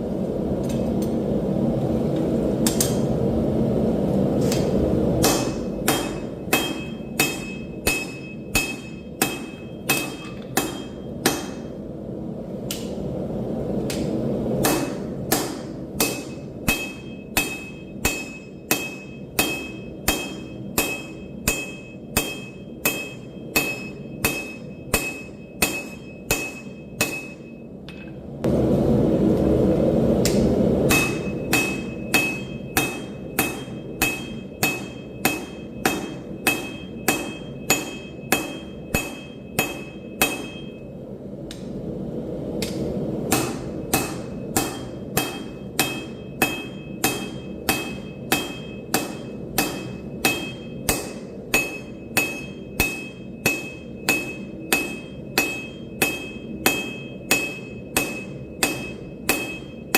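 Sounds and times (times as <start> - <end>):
hammer striking steel on anvil: 4.5 - 11.8, 13.9 - 28.1, 30.2 - 40.9, 42.6 - 59.9.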